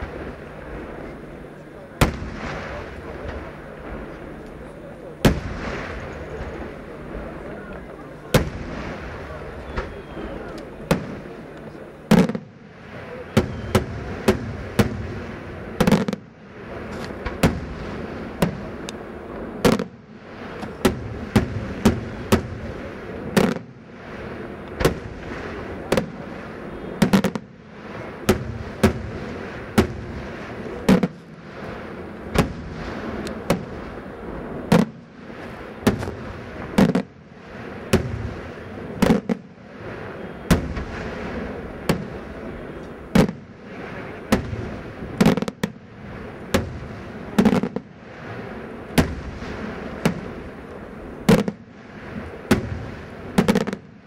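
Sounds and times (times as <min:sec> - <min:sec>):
fireworks bursting with sharp bangs: 0:00.0 - 0:54.0.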